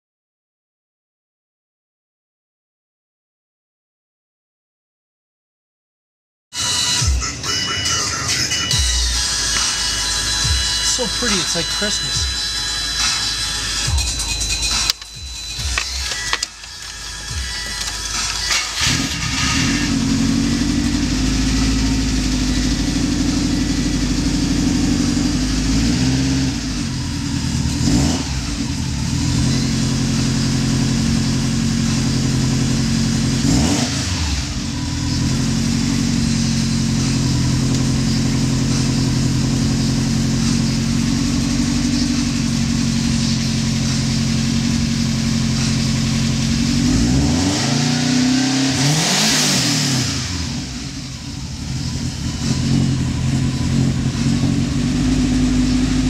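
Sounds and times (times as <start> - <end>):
car engine idling and revving: 6.6 - 56.0.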